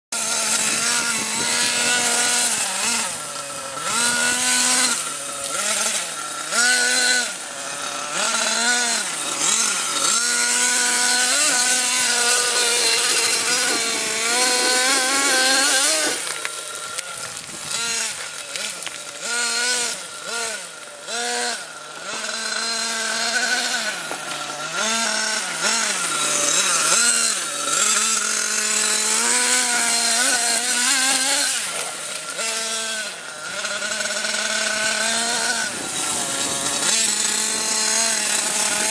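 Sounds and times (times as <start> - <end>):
rc vehicle motor revving: 0.1 - 38.9.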